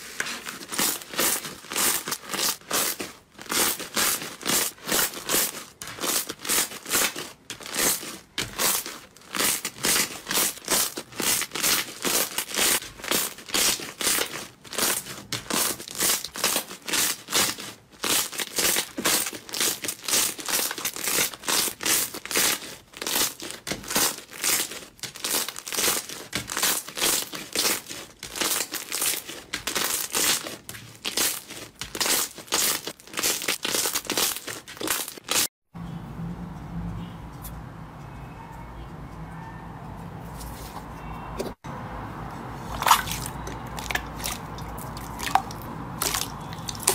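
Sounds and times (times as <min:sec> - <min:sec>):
slime being kneaded: 0:00.0 - 0:35.5, 0:42.6 - 0:46.9.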